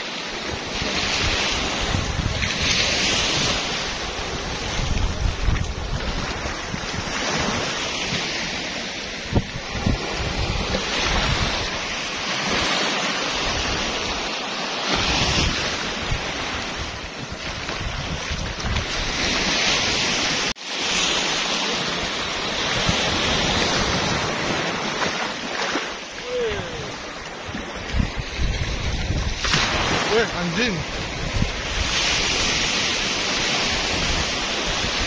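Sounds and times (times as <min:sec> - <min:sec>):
surf washing on beach: 0:00.0 - 0:35.0
wind buffeting microphone: 0:00.4 - 0:20.5, 0:21.7 - 0:35.0.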